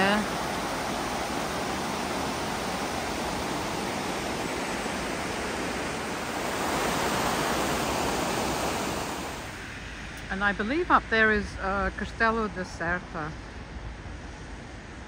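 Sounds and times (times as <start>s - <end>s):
water rushing over weir: 0.0s - 14.2s.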